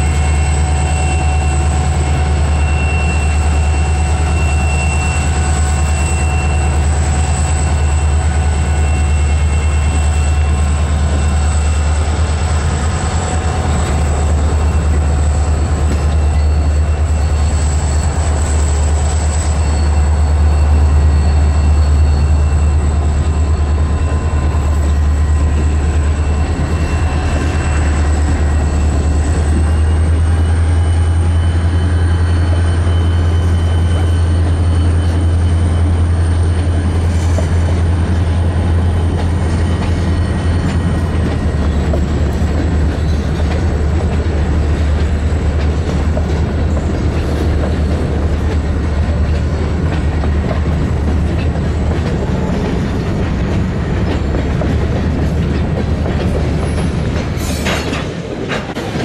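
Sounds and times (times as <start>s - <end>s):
freight train low drone: 0.0s - 59.0s.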